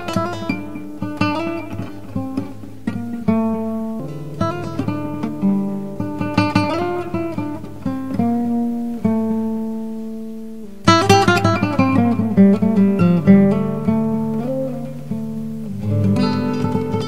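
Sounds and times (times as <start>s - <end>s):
acoustic guitar strumming and plucking: 0.0s - 17.0s.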